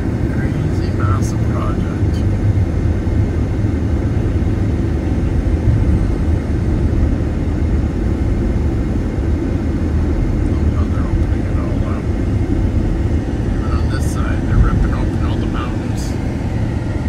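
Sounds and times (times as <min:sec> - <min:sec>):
vehicle cabin road rumble: 0:00.0 - 0:17.0.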